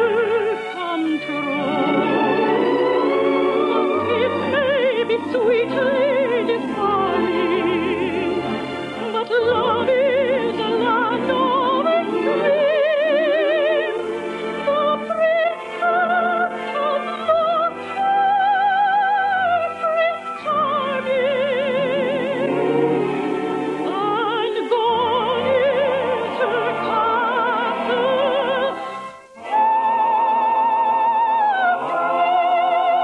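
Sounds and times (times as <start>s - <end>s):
soft orchestral accompaniment: 0.0s - 33.0s
soprano singing operatically: 0.0s - 33.0s.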